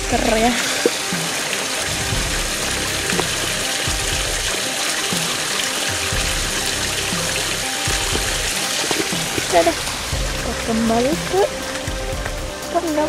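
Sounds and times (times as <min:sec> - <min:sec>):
stream water over rocks: 0:00.0 - 0:13.0.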